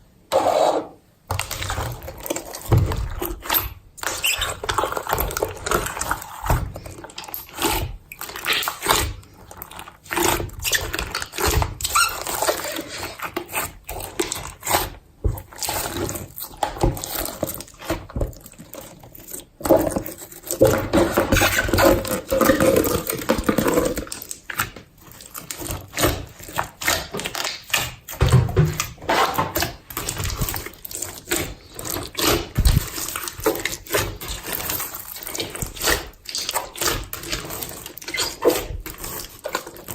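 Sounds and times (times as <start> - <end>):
slime squelching by hand: 0.6 - 39.9.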